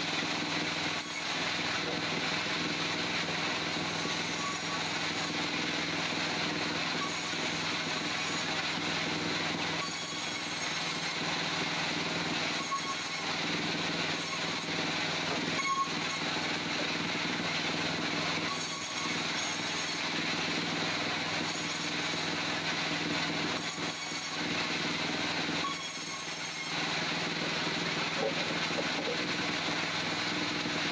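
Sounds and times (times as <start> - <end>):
sawmill engine running: 0.0 - 30.9.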